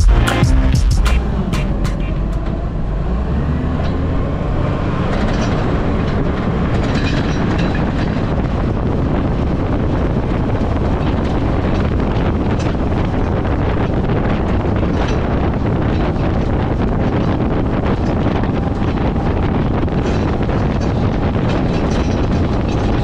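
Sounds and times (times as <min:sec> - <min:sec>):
wind buffeting microphone: 0:01.2 - 0:23.0.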